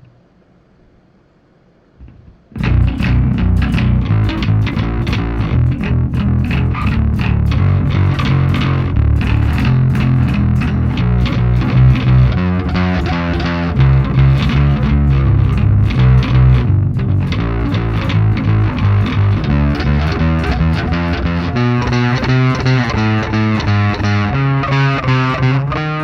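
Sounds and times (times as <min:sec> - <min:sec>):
electric bass riff: 0:02.0 - 0:26.0.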